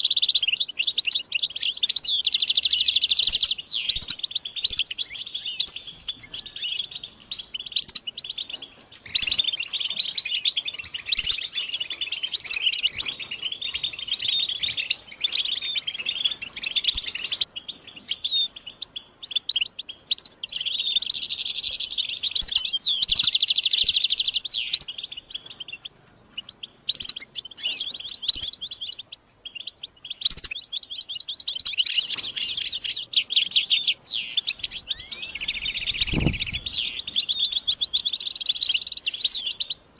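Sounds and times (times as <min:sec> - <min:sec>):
finches chattering and singing: 0:00.0 - 0:39.9.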